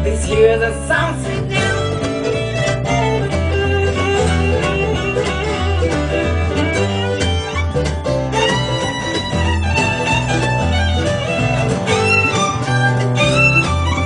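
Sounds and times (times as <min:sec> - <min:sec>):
bass line: 0:00.0 - 0:14.0
plucked guitar: 0:00.0 - 0:14.0
fiddle long held notes: 0:01.5 - 0:14.0.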